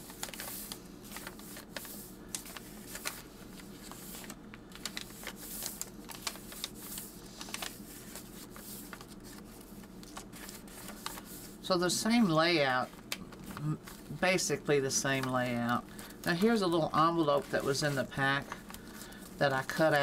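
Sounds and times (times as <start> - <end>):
paper pages rustling: 0.0 - 20.0
crisp ticks of flipping pages: 0.1 - 11.4, 12.8 - 14.2, 15.1 - 20.0.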